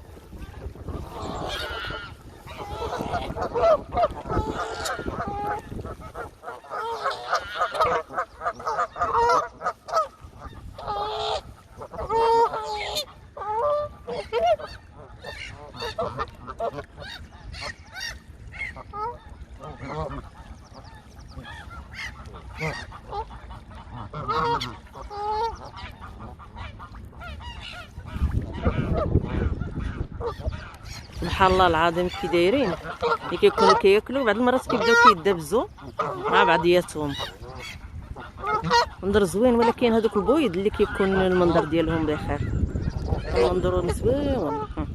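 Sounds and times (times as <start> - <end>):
geese honking: 0.0 - 44.9.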